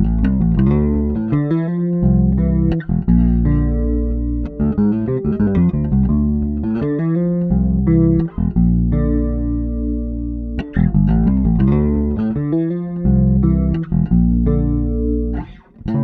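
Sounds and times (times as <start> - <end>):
electric bass guitar with chorus: 0.0 - 16.0.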